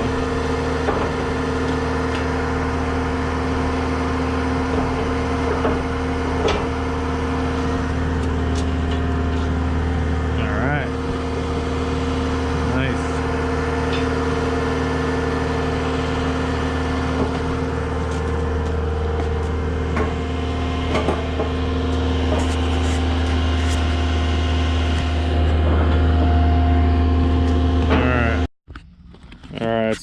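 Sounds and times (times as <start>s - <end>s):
diesel engine idling: 0.0s - 28.5s.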